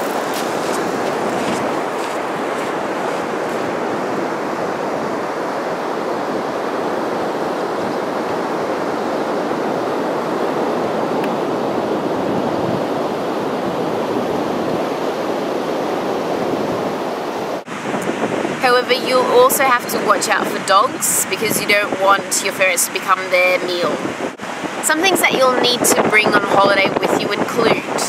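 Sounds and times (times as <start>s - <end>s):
ocean surf breaking: 0.0s - 28.0s
wind on microphone: 0.0s - 28.0s.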